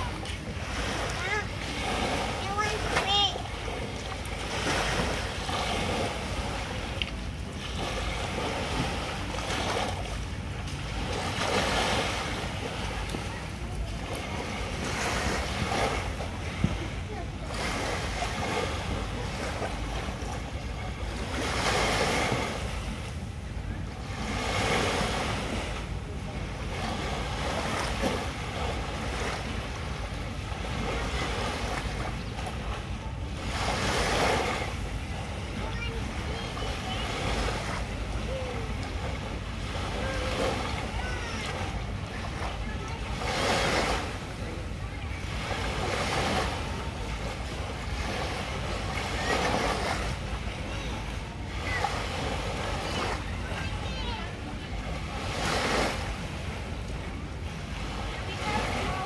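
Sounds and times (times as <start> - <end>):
small waves washing onto sand: 0.0 - 59.0.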